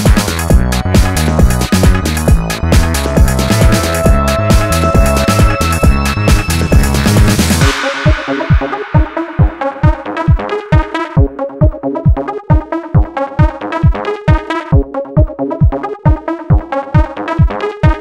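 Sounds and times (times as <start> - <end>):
electronic dance music: 0.0 - 18.0
punchy kick drum: 0.0 - 18.0
synthesizer chords: 0.0 - 18.0.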